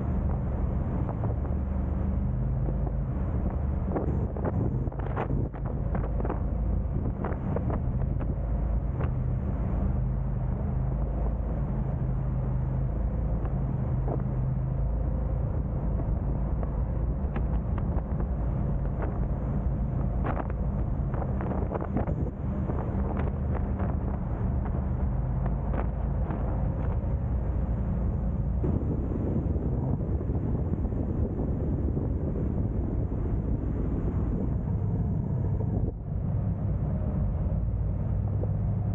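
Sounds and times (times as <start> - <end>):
car engine and road noise: 0.0 - 38.9
wind buffeting microphone: 0.0 - 38.9.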